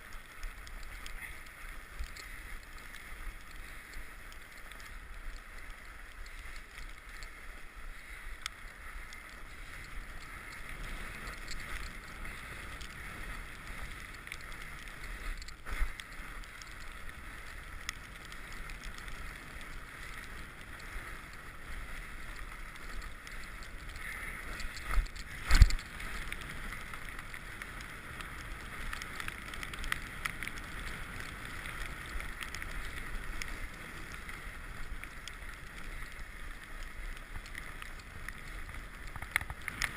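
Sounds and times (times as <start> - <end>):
bike tyre and wind noise: 0.0 - 39.9.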